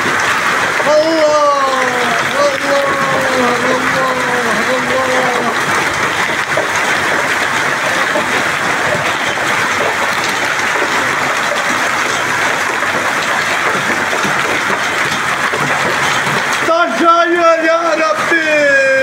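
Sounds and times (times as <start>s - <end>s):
heavy hail falling: 0.0s - 19.0s.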